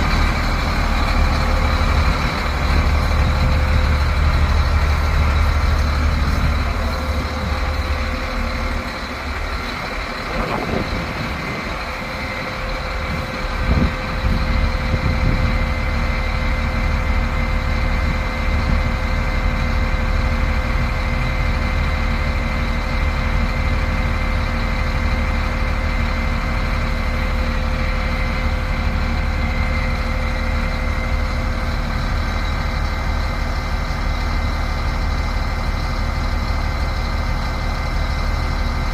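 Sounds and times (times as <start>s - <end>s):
diesel engine deep rumble: 0.0s - 38.9s.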